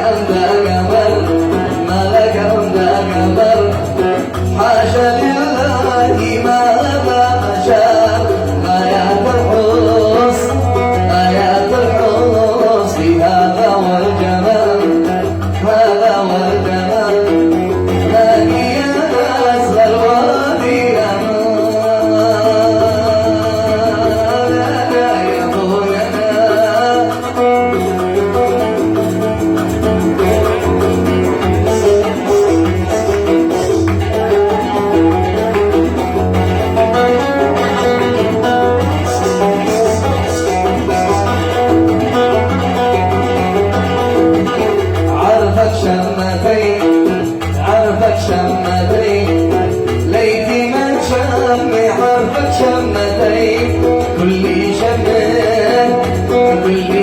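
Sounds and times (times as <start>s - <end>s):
oud plucked notes: 0.0s - 57.0s.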